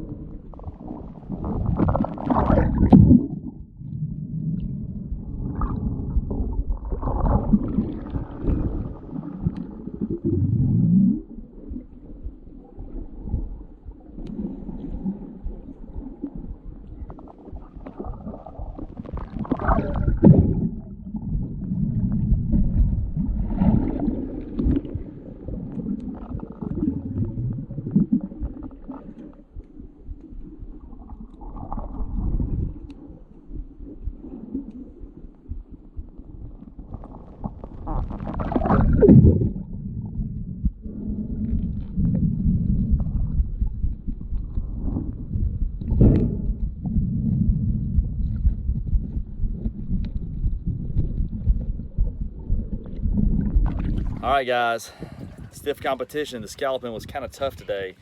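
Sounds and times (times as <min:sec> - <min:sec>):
underwater sloshing and gurgling: 0:00.0 - 0:58.0.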